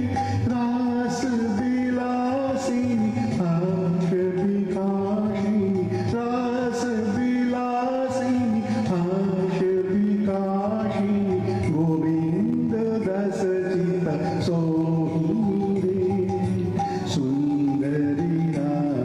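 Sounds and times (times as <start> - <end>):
man singing slow song: 0.0 - 19.0.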